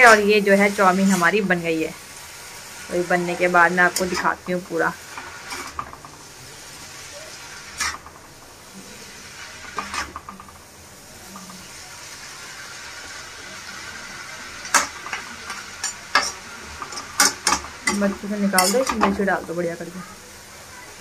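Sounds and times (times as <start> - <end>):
noodles sizzling in a pan: 0.0 - 21.0.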